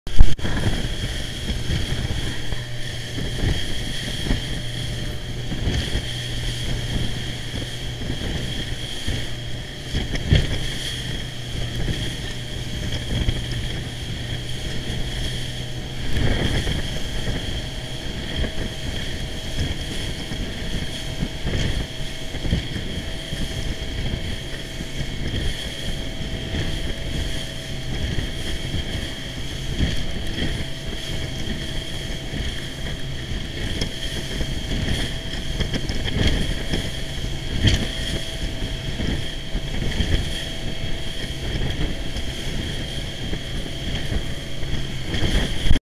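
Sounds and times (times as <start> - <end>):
boat engine drone: 0.1 - 45.8
water splashing against hull: 0.1 - 45.8
wind buffeting microphone: 0.1 - 45.8.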